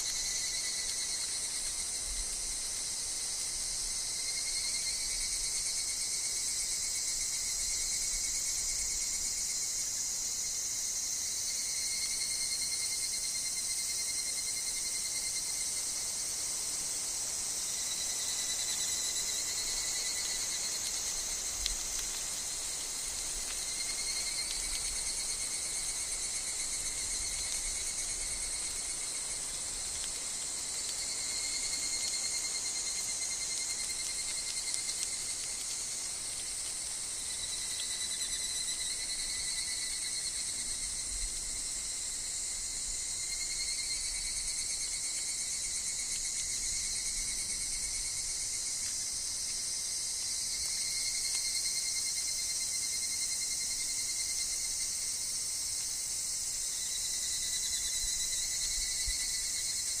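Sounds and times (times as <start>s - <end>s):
cicadas singing: 0.0s - 60.0s.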